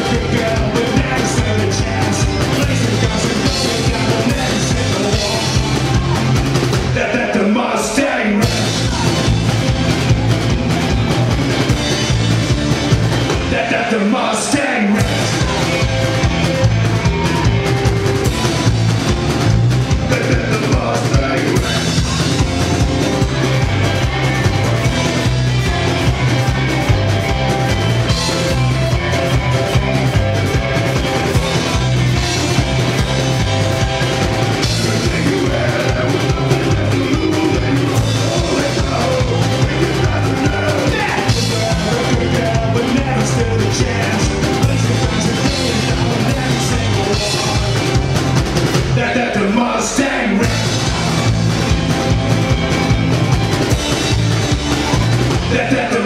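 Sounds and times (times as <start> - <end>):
drum kit beat: 0.0 - 7.5, 8.3 - 14.0, 14.9 - 56.0
bass guitar: 0.0 - 56.0
electric guitars: 0.0 - 56.0.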